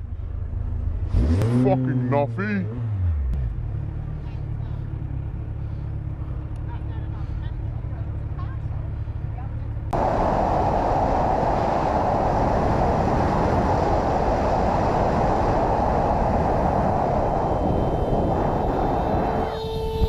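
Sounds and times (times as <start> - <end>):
wind and road noise from motorcycle: 0.0 - 20.0.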